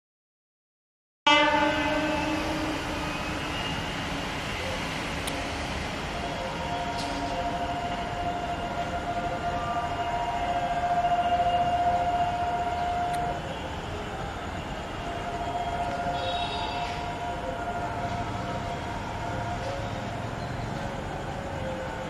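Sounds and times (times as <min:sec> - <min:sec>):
long train horn: 0:01.3 - 0:20.4
railway station ambience: 0:01.3 - 0:22.0.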